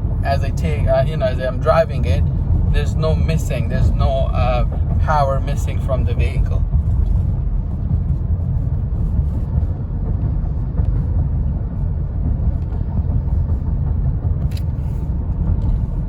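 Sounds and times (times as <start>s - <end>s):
minivan engine rumble from cabin: 0.0s - 16.0s.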